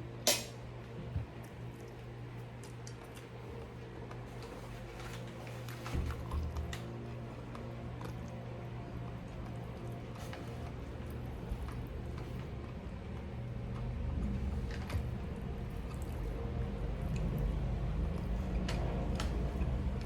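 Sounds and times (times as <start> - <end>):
low hum: 0.0 - 20.0
person chewing wetly: 1.3 - 4.6, 5.6 - 20.0.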